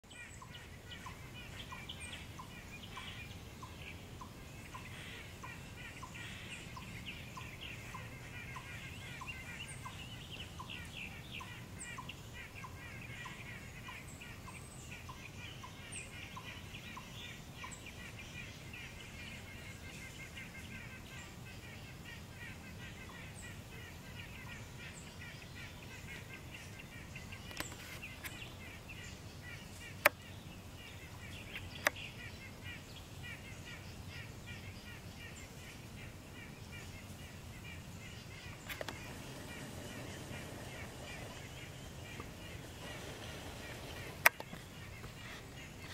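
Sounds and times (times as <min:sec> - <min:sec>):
high chatter of birds or insects: 0:00.0 - 0:45.9.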